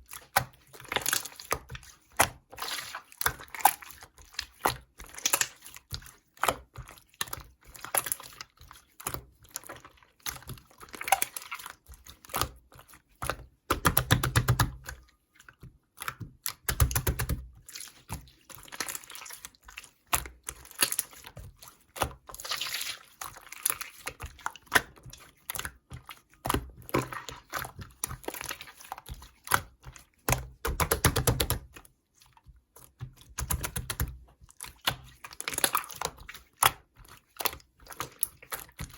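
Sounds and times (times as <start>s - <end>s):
slime squelching: 0.0s - 38.9s.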